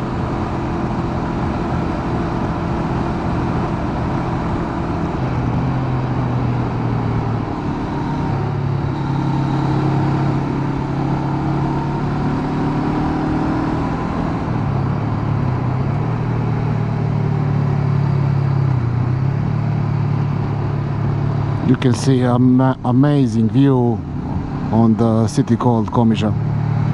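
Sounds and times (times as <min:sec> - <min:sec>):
motorcycle engine running: 0:00.0 - 0:21.7.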